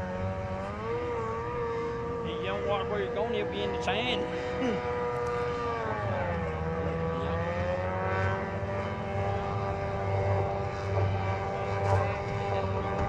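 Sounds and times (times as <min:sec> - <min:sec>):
outboard motors whining: 0:00.0 - 0:13.0.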